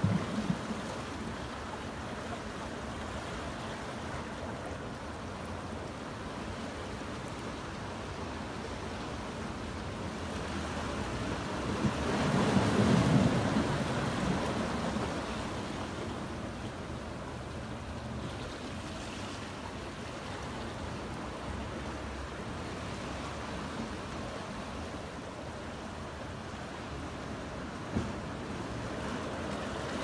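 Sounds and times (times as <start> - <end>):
ocean surf among boulders: 0.0 - 30.0.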